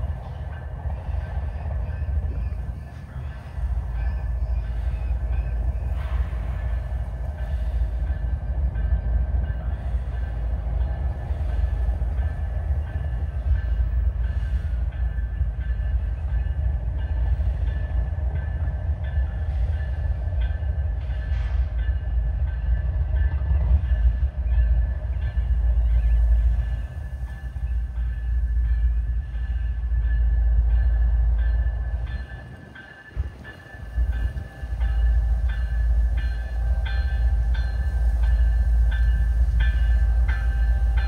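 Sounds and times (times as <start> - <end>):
diesel locomotives rumbling: 0.0 - 41.0.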